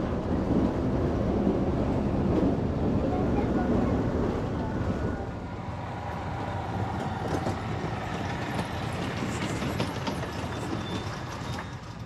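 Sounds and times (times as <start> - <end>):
vehicle rumbling: 0.0 - 12.0.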